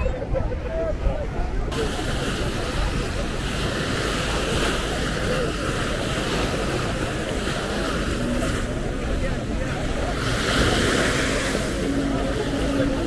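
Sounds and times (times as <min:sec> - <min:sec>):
small waves washing up a shore: 0:00.0 - 0:13.0.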